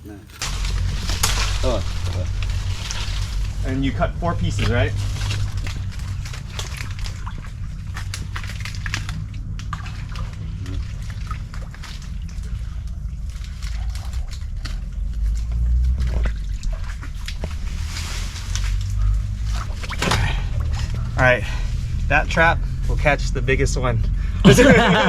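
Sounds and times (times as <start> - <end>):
steady low rumble: 0.0 - 25.0
mud and water squelching: 0.3 - 23.2.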